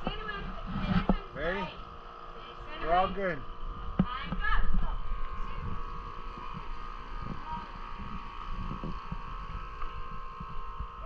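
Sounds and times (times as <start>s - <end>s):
wind rumble on microphone: 0.0s - 1.9s, 3.6s - 11.0s
steady high-pitched hum: 0.0s - 11.0s.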